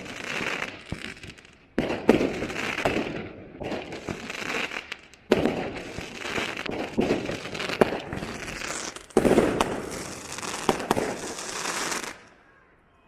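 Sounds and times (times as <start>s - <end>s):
fireworks crackling: 0.0s - 12.4s
fireworks bangs: 0.0s - 12.6s.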